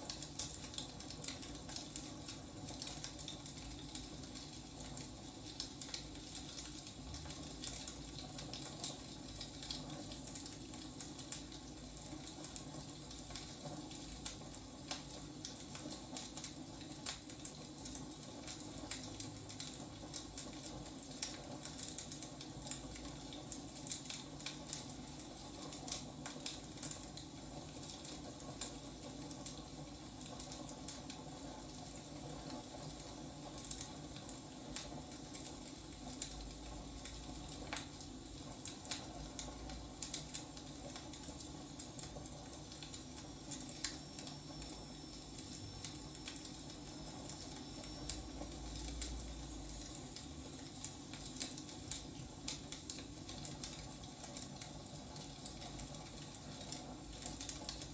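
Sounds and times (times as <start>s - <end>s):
firewood crackling and popping: 0.0s - 57.9s.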